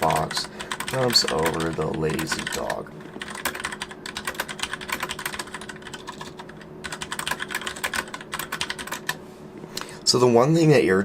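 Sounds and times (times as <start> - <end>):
mechanical keyboard typing: 0.0 - 9.2.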